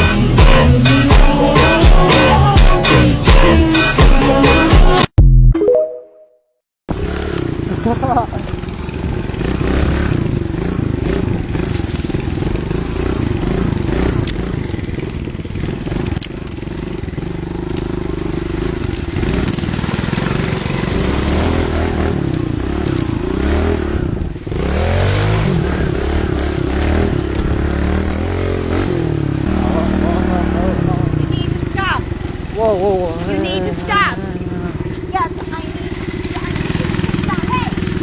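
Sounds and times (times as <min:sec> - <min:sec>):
motorcycle engine revving: 0:06.9 - 0:38.0.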